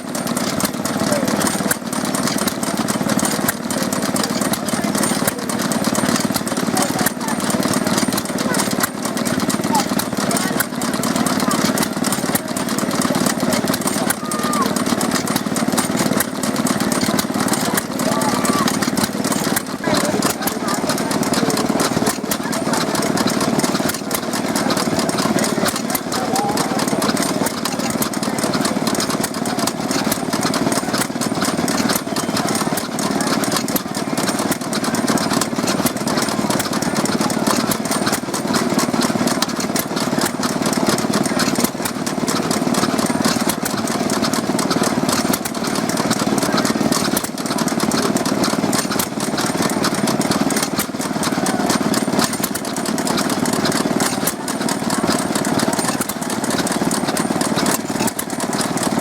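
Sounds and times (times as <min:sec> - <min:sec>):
stationary engines running: 0:00.0 - 0:59.0.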